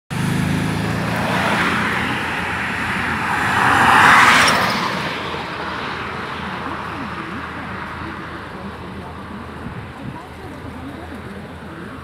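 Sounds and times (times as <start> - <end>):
car passing close by: 0.1 - 12.0
low traffic engine hum: 0.1 - 12.0.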